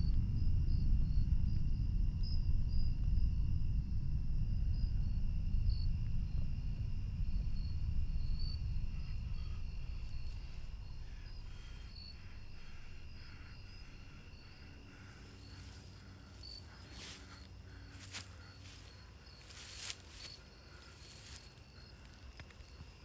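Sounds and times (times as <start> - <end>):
low rumble: 0.0 - 22.3
crickets chirping: 0.0 - 23.0.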